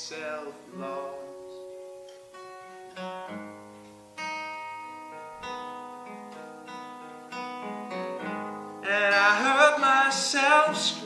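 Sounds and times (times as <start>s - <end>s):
acoustic guitar chords: 0.0s - 11.0s.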